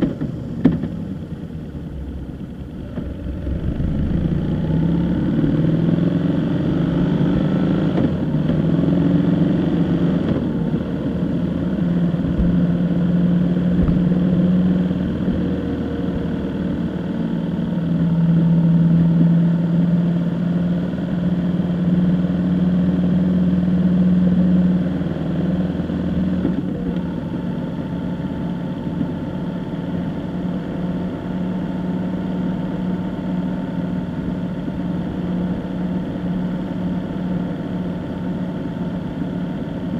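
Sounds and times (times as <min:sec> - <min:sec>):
vehicle engine hum on road: 0:00.0 - 0:39.9.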